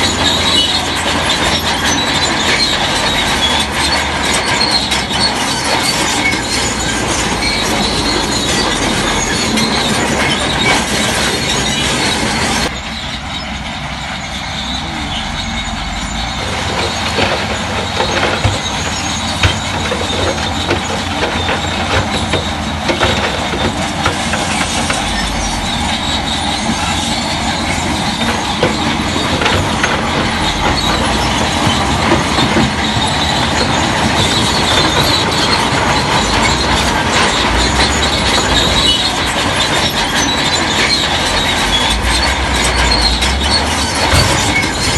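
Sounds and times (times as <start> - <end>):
bulldozer diesel engine running: 0.0 - 44.9
steel tracks squealing and clattering: 0.0 - 44.9.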